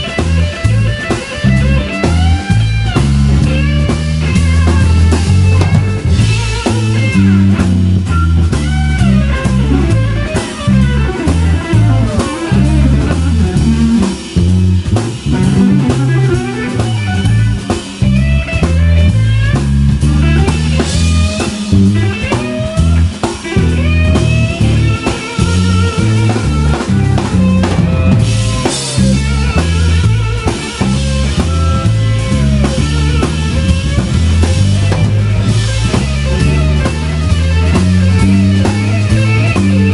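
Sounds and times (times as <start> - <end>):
drum kit: 0.0 - 39.9
electric bass: 0.0 - 39.9
electric guitar with bent notes: 0.0 - 39.9.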